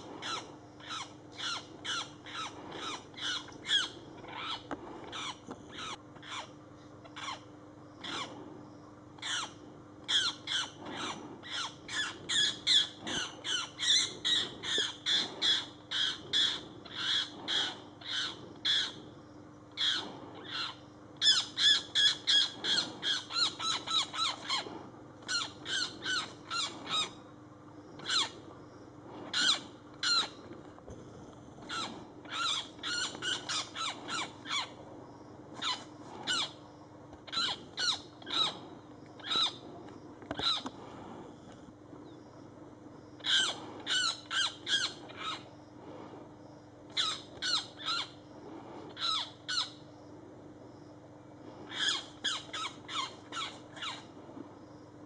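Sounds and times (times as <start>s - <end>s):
harsh bird distress calls: 0.0s - 30.7s, 31.6s - 40.9s, 43.1s - 46.0s, 46.6s - 50.0s, 51.0s - 54.2s.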